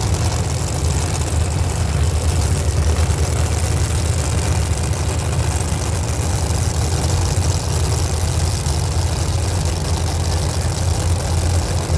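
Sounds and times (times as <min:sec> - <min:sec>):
racing car engine idling: 0:00.0 - 0:11.9.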